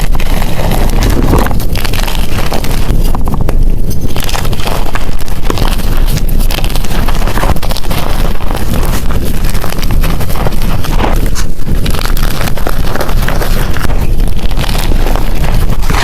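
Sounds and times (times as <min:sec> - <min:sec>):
chalk crushed by hand: 0:00.0 - 0:16.0
low rumble: 0:00.0 - 0:16.0.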